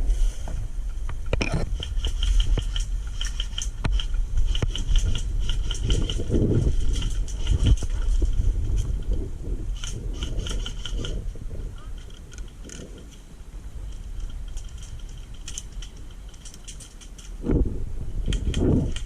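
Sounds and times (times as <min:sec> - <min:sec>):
low rumble: 0:00.0 - 0:19.0
rustling and scraping: 0:00.0 - 0:19.0.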